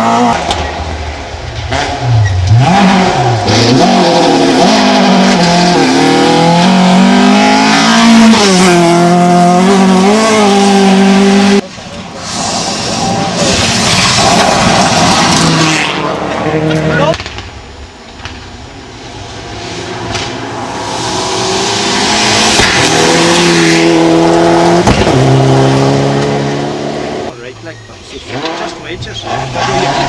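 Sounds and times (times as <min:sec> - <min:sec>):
rally car approaching: 0:00.0 - 0:17.3, 0:18.8 - 0:30.0
rally car engine revving: 0:00.0 - 0:17.4, 0:18.9 - 0:30.0.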